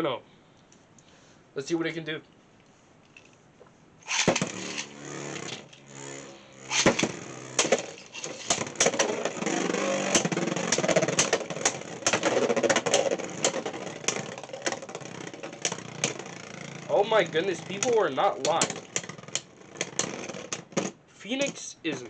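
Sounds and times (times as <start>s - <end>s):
spinning top launch rip: 4.0s - 22.0s
spinning tops whirring: 4.0s - 22.0s
spinning tops clacking: 4.1s - 22.0s.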